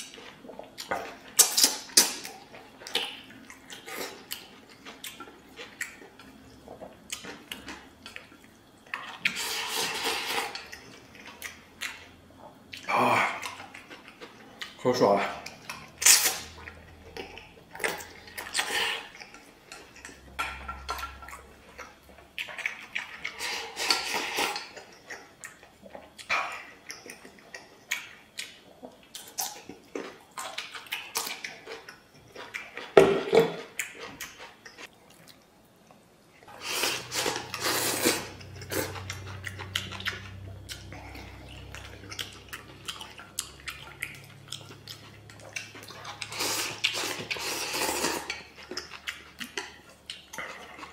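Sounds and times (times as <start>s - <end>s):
slurping and chewing food: 0.0s - 50.9s.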